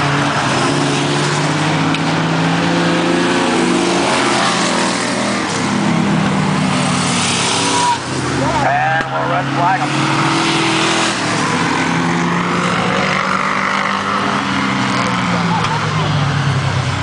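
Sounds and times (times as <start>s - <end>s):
race car engines: 0.0s - 17.0s
race car passing close: 0.0s - 17.0s.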